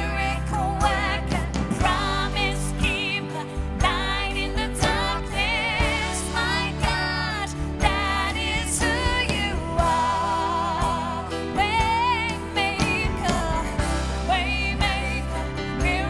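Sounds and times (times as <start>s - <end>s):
band with low bass: 0.0s - 16.0s.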